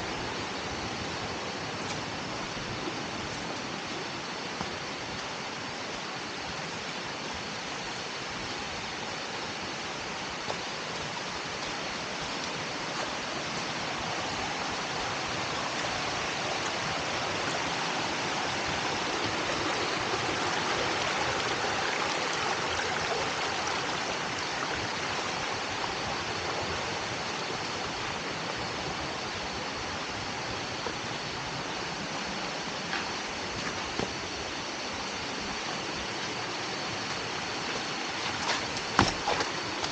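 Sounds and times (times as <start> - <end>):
stream and waterfall rushing: 0.0 - 39.9.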